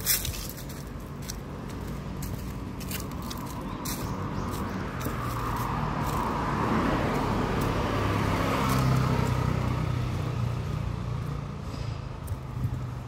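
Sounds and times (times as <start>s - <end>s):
vehicle engine passing: 0.2s - 13.0s.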